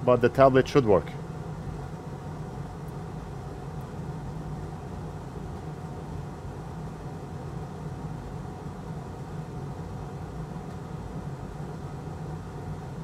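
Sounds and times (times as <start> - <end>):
steady hum with light hiss: 0.0 - 13.0.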